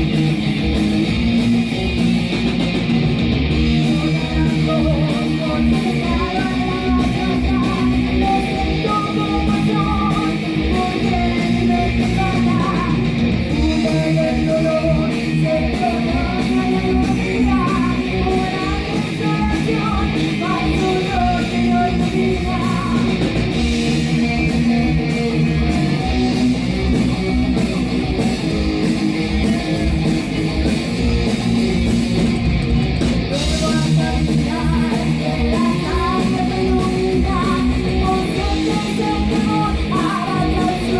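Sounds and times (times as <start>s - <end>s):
bass guitar: 0.0s - 40.9s
distorted electric guitars: 0.0s - 40.9s
drums with driving beat: 0.0s - 40.9s.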